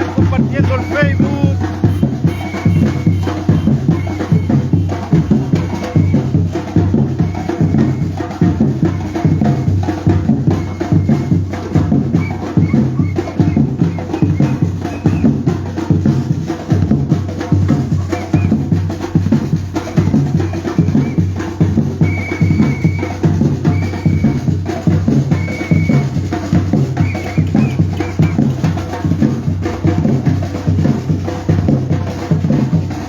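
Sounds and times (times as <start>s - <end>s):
percussion band drumming: 0.0s - 33.0s.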